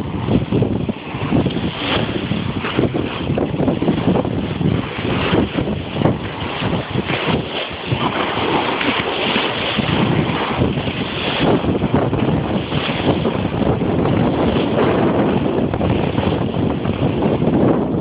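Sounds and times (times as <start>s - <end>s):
small waves breaking on beach: 0.0s - 18.0s
wind buffeting microphone: 0.0s - 18.0s.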